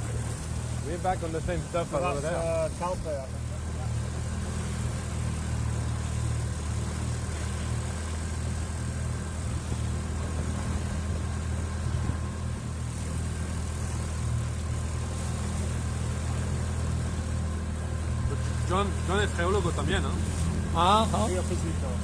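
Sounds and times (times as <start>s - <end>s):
outboard motor humming: 0.0s - 22.0s.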